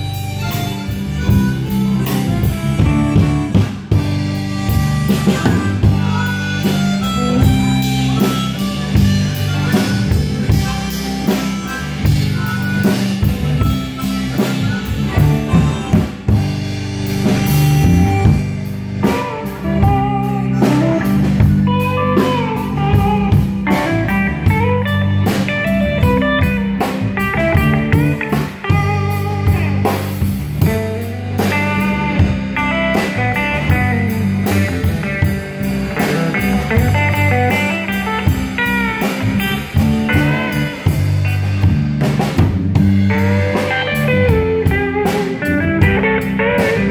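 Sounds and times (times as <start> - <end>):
drum kit steady beat: 0.0 - 46.9
electric guitar: 0.0 - 46.9
harmonica lead: 0.0 - 46.9.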